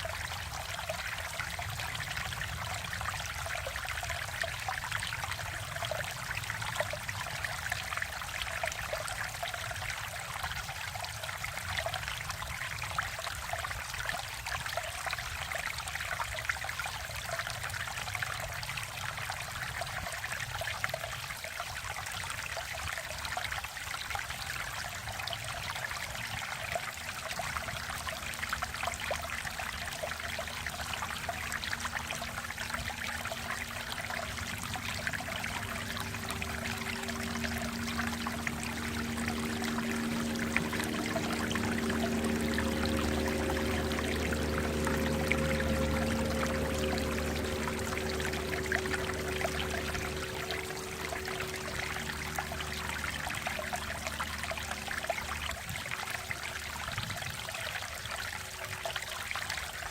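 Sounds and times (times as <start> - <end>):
stream flowing and trickling: 0.0 - 59.9.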